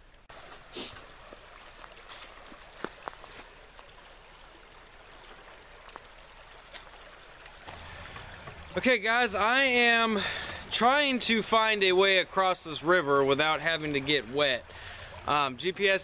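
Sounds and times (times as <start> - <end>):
stream trickling over rocks: 0.0 - 16.0.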